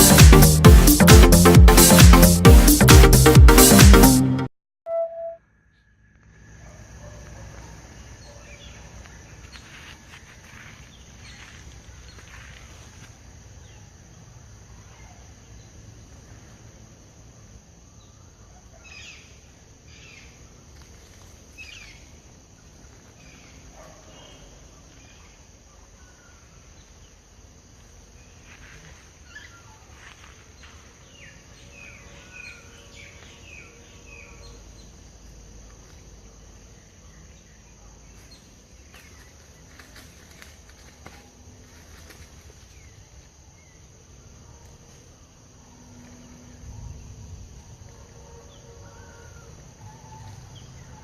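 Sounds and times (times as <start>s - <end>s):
insect drone: 5.4s - 51.0s.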